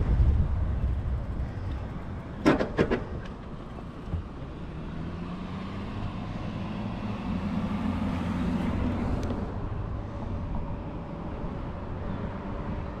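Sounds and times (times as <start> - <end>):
passing vehicle engine hum: 0.0 - 13.0
road traffic noise: 0.0 - 13.0.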